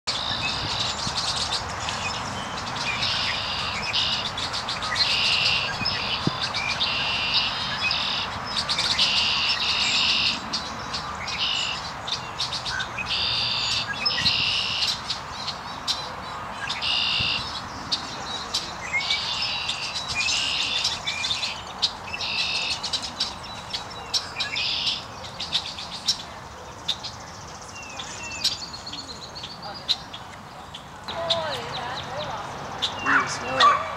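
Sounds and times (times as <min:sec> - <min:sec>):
songbirds trilling: 0:00.1 - 0:33.9.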